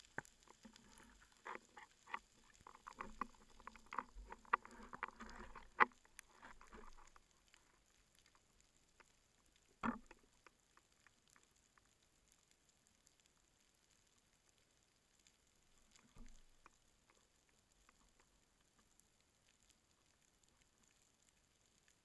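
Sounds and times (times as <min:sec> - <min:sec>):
faint underwater clicks and crackles: 0:00.0 - 0:22.0.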